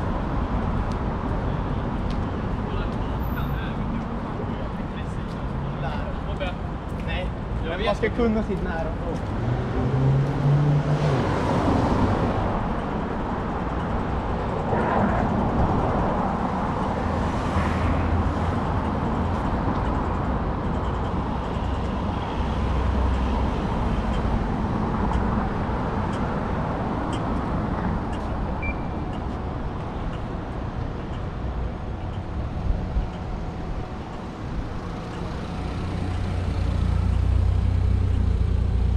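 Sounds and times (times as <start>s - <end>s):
tyre and road noise: 0.0s - 38.9s
vehicles passing: 0.0s - 38.9s.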